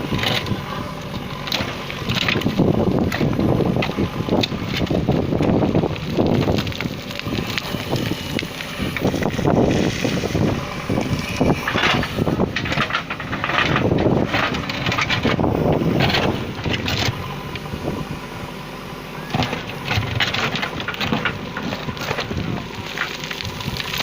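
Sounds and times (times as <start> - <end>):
backhoe diesel engine running: 0.0 - 24.0.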